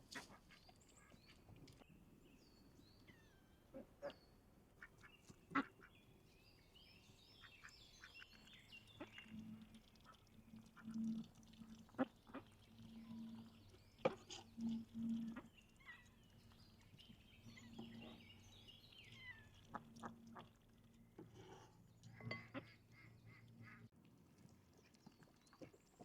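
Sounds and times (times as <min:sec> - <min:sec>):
birds chirping: 0:00.6 - 0:21.2, 0:21.9 - 0:23.9.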